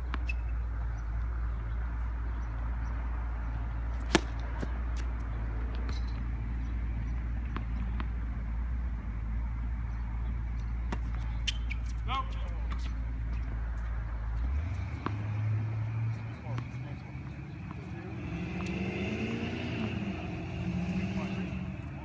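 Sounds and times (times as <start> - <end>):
tennis balls hit and bouncing: 0.0 - 22.0.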